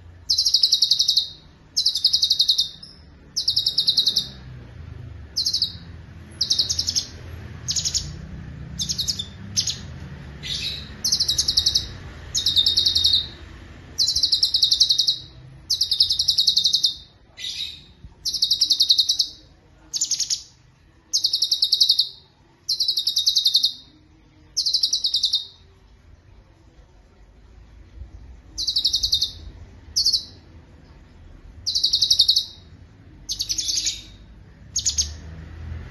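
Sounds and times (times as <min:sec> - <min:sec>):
faint low hum: 0:00.0 - 0:35.9
bird trilling song: 0:00.2 - 0:04.5, 0:05.3 - 0:25.7, 0:28.6 - 0:30.5, 0:31.6 - 0:35.3.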